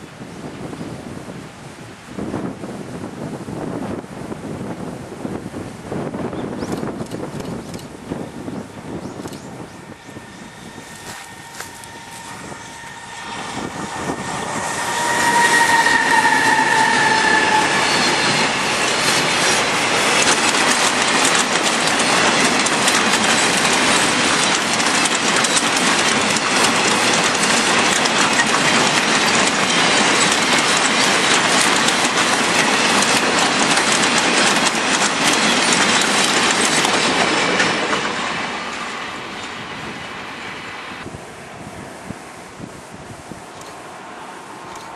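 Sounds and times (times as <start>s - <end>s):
locomotive whine: 8.0s - 44.9s.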